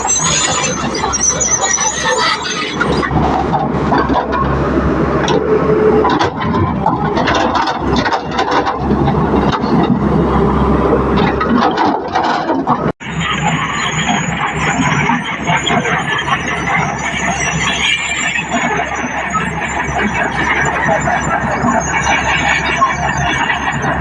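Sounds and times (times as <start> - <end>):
excavator engine under load: 0.0 - 24.0
metallic squealing and clanking: 0.0 - 24.0.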